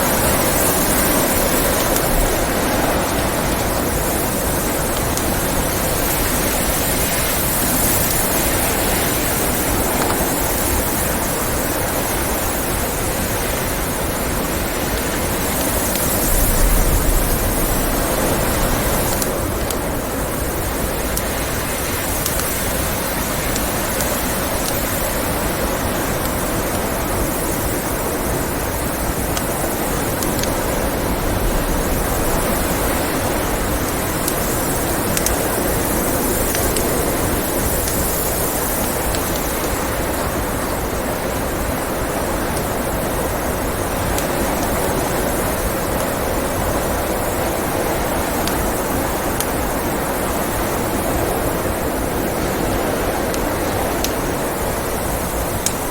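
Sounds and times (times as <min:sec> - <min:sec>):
blizzard wind blowing: 0:00.0 - 0:55.9
wood fire crackling: 0:00.0 - 0:55.9.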